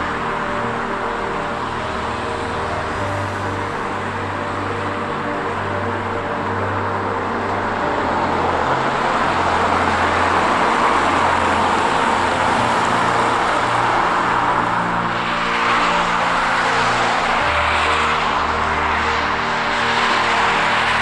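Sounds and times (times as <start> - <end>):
cars passing: 0.0 - 21.0
tyre and wind road noise: 0.0 - 21.0.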